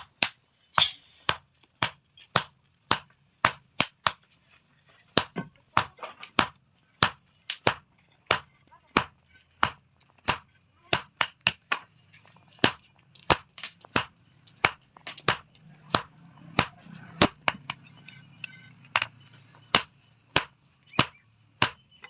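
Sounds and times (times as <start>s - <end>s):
hammer striking steel on anvil: 0.0s - 4.2s, 5.2s - 11.7s, 12.6s - 22.0s.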